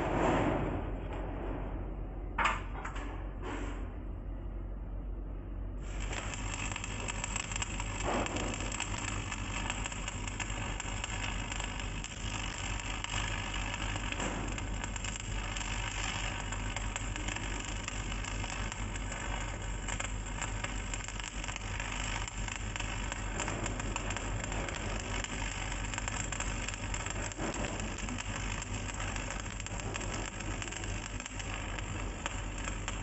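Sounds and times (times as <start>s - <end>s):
steady low hum: 0.0s - 33.0s
welding arc crackling: 5.8s - 33.0s.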